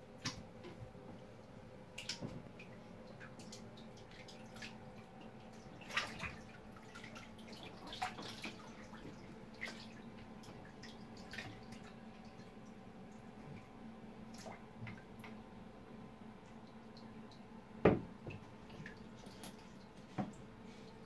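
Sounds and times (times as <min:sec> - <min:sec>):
water splashing in a tub: 0:00.0 - 0:21.0.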